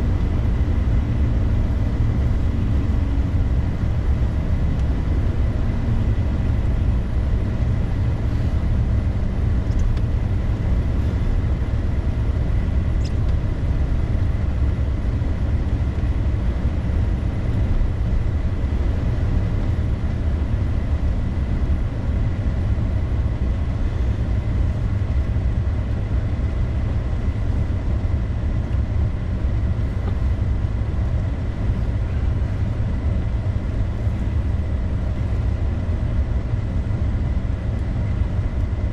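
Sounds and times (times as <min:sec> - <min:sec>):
vehicle driving on snowy road: 0:00.0 - 0:38.9.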